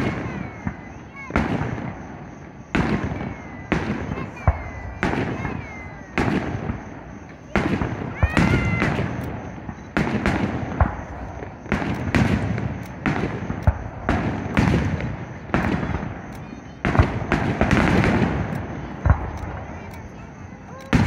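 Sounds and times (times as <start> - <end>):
firework booms: 0.0 - 21.0
firework cracks: 0.0 - 21.0.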